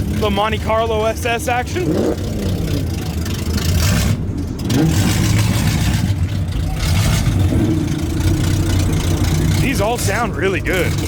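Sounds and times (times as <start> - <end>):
engine exhaust rumble: 0.0 - 11.0.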